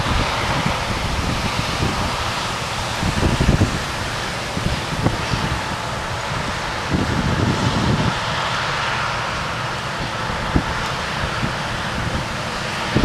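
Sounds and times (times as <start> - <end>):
farm machinery rumble and whir: 0.0 - 13.0
wind buffeting microphone: 0.0 - 13.0.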